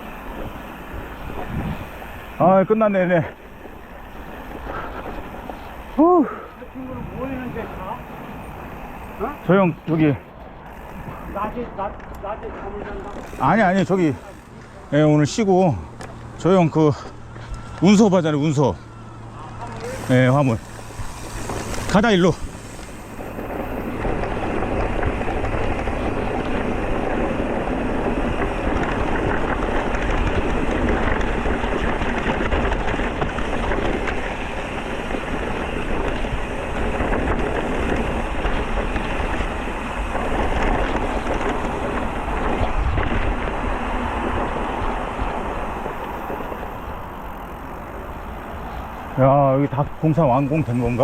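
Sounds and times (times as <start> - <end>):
bike tyre rumble: 0.0 - 51.0
wind buffeting microphone: 0.0 - 51.0.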